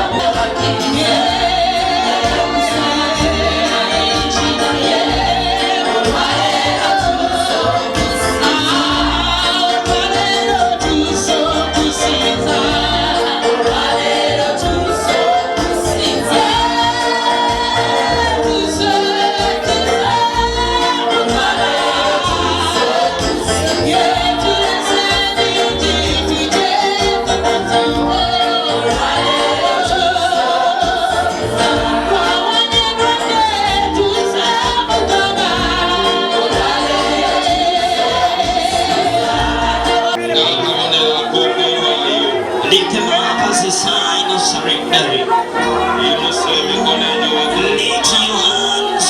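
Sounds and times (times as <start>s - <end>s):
steady bass beat: 0.0s - 40.2s
voices singing gospel: 0.0s - 49.0s.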